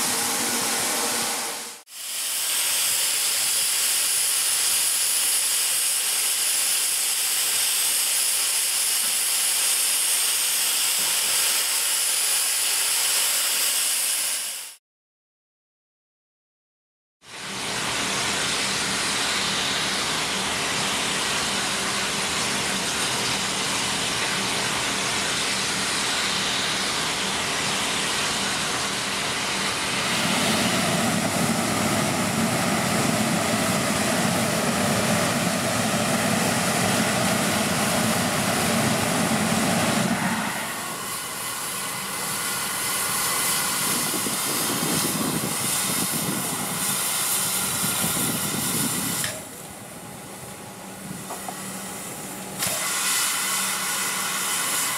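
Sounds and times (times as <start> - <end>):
steam locomotive venting steam: 0.0 - 14.8, 17.2 - 54.9.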